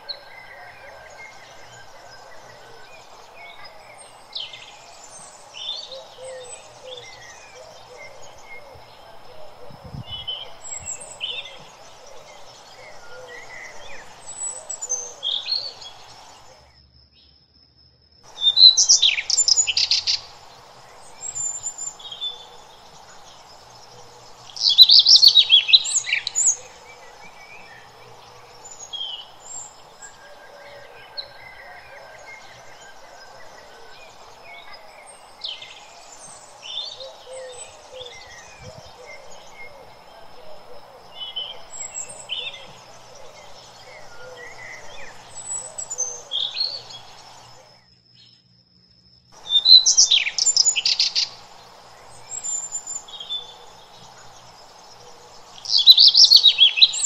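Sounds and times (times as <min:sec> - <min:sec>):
birds chirping: 0:00.0 - 0:16.6, 0:18.3 - 0:47.7, 0:49.4 - 0:57.0.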